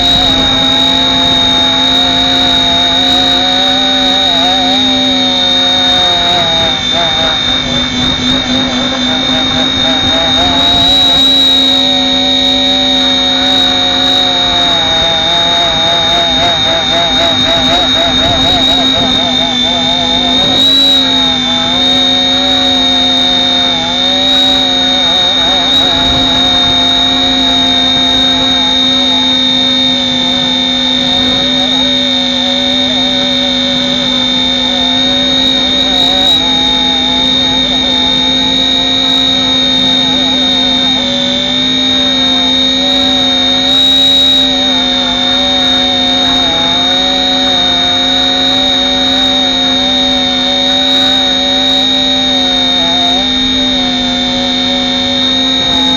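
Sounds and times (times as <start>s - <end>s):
helicopter motor whine and rotor hum: 0.0s - 55.9s.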